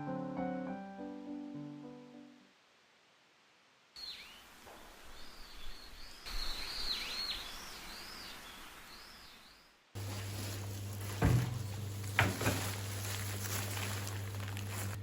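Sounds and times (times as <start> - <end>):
steady outdoor hiss: 1.6 - 15.0.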